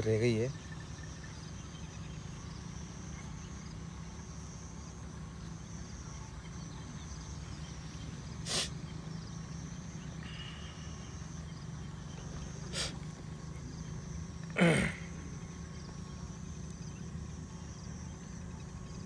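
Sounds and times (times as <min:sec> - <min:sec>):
high-pitched insect trill: 0:00.0 - 0:19.0.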